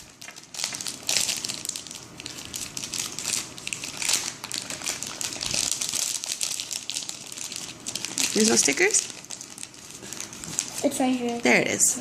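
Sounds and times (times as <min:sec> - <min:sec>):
crinkly packaging crackling: 0:00.0 - 0:11.5.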